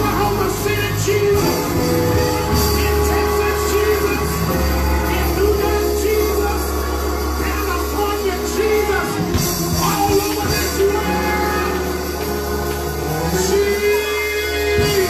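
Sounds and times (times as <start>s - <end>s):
gospel band music: 0.0s - 15.0s
wordless singing: 0.0s - 15.0s.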